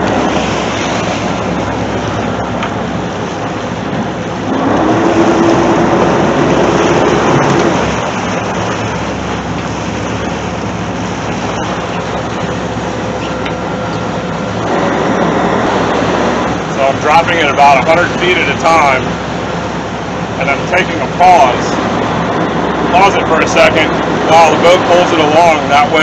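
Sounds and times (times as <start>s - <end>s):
boat engine drone: 0.0s - 26.0s
propeller wash rushing water: 0.0s - 26.0s.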